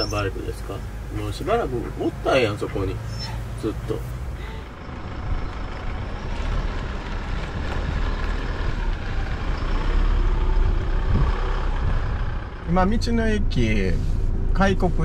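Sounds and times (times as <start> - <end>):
tyres on tarmac: 0.0 - 15.0
van driving past: 0.0 - 15.0.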